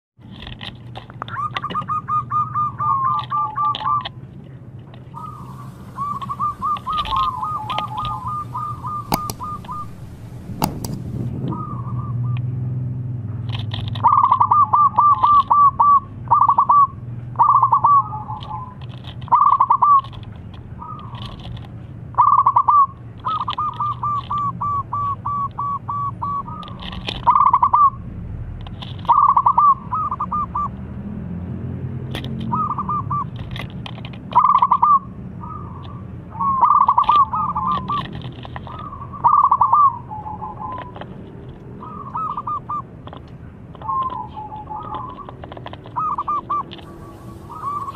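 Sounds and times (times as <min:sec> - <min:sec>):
dove cooing: 0:01.3 - 0:04.2, 0:05.1 - 0:12.5, 0:13.9 - 0:20.2, 0:20.8 - 0:21.5, 0:22.2 - 0:28.0, 0:29.0 - 0:30.8, 0:32.4 - 0:33.6, 0:34.3 - 0:47.9.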